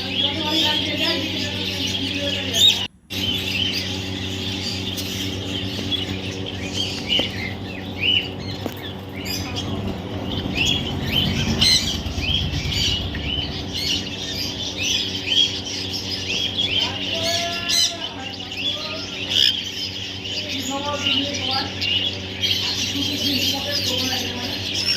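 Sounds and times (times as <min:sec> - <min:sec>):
parrot chirping: 0:00.0 - 0:24.9
steady low hum: 0:00.0 - 0:24.9.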